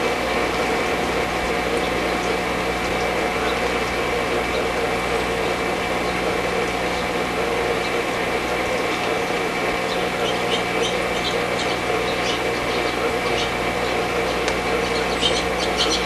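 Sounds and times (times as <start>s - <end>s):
mechanical hum with hiss: 0.0s - 16.0s.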